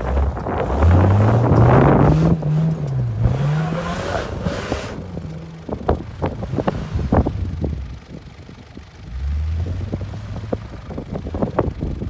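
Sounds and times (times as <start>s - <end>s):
engine revving: 0.0s - 11.8s.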